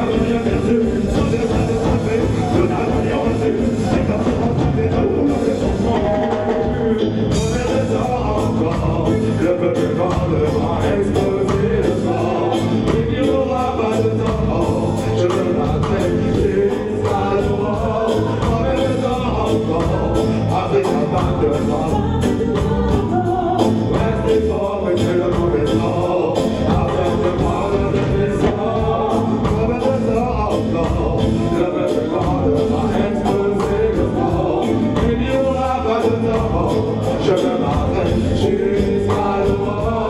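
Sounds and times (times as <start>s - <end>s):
backing vocalists singing: 0.0s - 40.0s
man singing lead vocals: 0.0s - 40.0s
reggae band playing: 0.0s - 40.0s.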